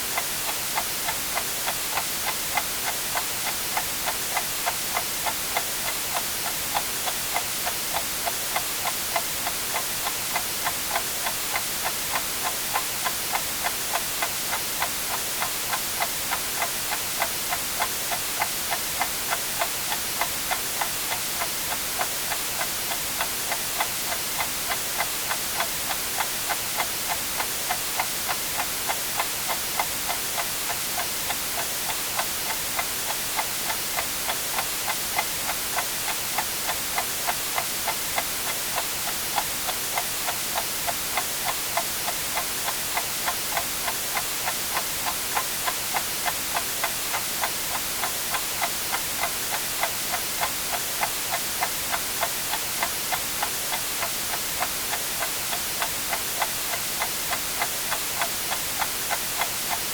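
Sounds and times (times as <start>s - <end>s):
white noise hiss: 0.0s - 59.9s
clock ticking: 0.2s - 59.9s.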